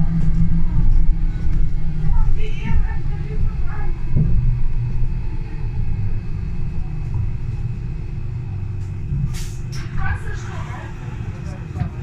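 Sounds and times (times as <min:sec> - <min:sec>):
bus engine rumble: 0:00.0 - 0:12.0
faint steady whine: 0:00.0 - 0:12.0.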